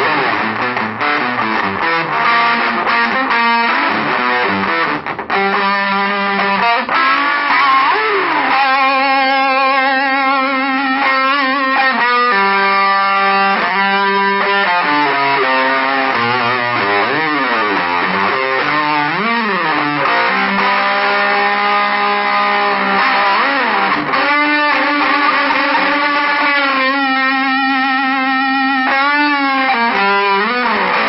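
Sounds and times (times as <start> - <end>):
fuzzed electric guitar: 0.0 - 31.0.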